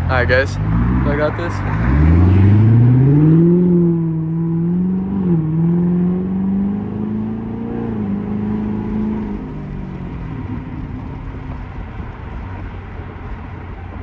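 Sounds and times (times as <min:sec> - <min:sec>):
car engine accelerating hard: 0:00.5 - 0:14.0.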